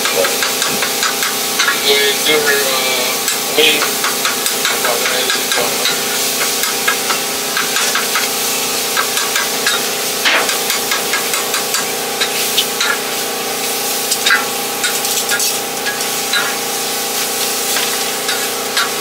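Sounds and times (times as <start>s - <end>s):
hot oil sizzling and crackling: 0.0s - 19.0s
mechanical hum: 0.0s - 19.0s.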